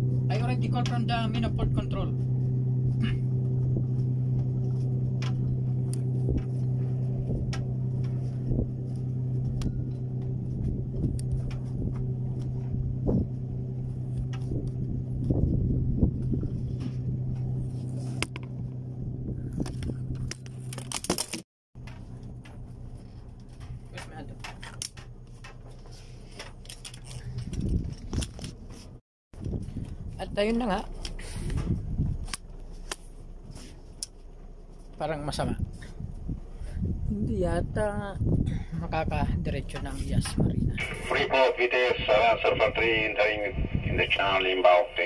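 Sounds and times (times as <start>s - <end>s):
boat engines humming: 0.0s - 20.8s, 21.8s - 27.6s, 28.6s - 36.6s, 40.8s - 45.0s.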